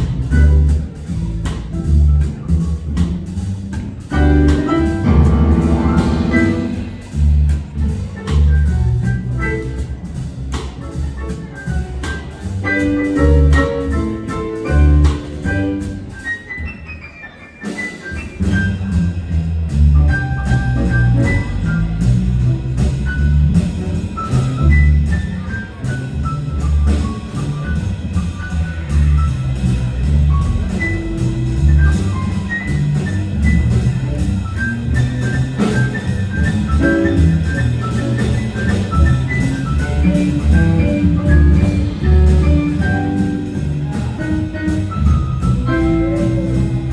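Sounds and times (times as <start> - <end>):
bass: 0.0 - 46.9
drums: 0.0 - 46.9.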